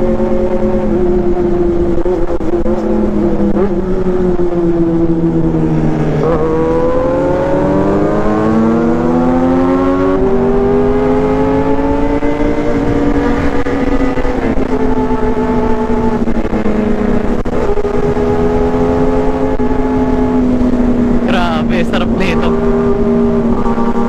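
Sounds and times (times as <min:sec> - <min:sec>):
motorcycle engine revving: 0:00.0 - 0:24.0
gear change: 0:01.2 - 0:24.0.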